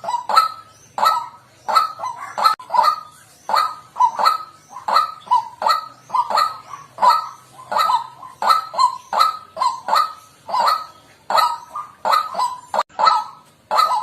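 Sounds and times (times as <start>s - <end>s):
bird hoarse kwak calls: 0.0s - 14.0s.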